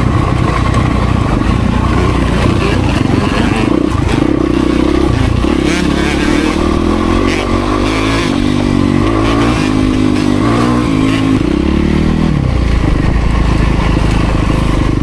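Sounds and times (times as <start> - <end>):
dirt bike engine shifting gears: 0.0 - 15.0.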